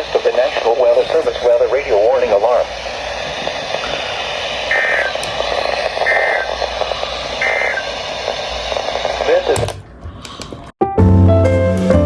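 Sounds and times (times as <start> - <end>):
radio static hiss: 0.0 - 9.8.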